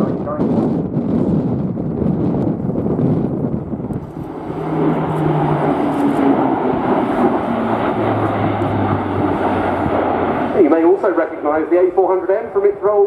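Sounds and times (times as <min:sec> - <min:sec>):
turboprop aircraft drone: 0:00.0 - 0:13.0.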